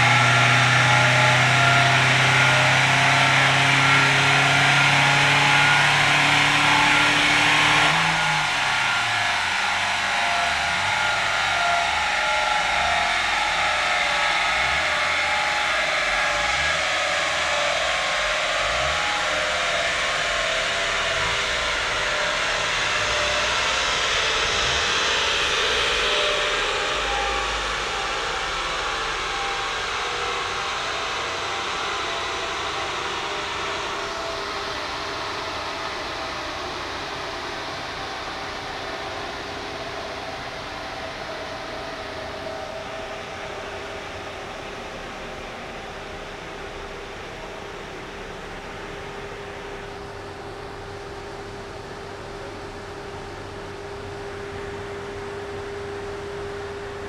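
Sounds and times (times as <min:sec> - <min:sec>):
diesel engine running at low revs: 0:00.0 - 0:57.0
large cooling fan rushing: 0:00.0 - 0:57.0.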